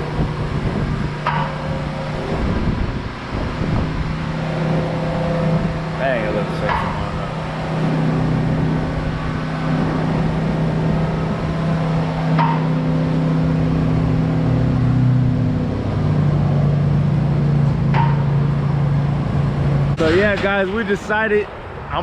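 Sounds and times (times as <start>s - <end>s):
hydraulic pump motor humming: 0.0s - 20.6s.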